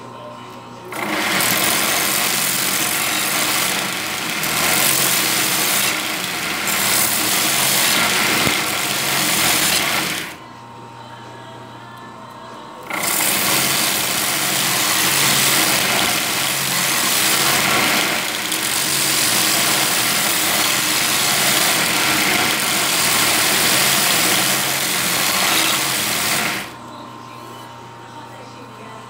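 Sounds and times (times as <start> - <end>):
motor hum: 0.9 - 11.2, 12.8 - 28.2
knife grinding on belt sander: 1.0 - 10.4, 12.9 - 26.8.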